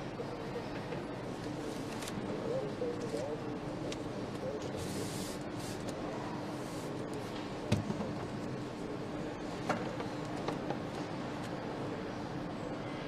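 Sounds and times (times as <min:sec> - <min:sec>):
assembly line machinery hum: 0:00.0 - 0:13.0.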